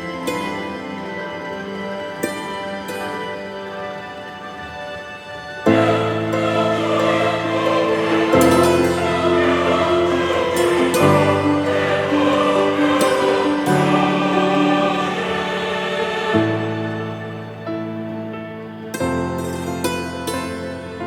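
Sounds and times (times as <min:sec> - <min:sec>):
choir singing sustained chords: 0:00.0 - 0:21.0.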